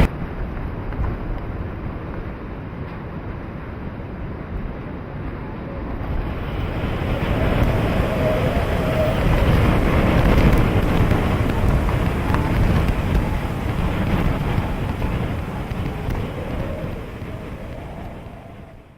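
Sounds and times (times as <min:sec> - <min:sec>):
strong wind buffeting microphone: 0:00.0 - 0:18.9.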